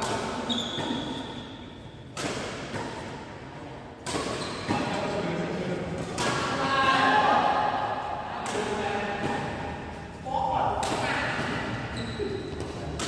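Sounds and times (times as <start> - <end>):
rackets hitting shuttlecock: 0.0 - 13.0.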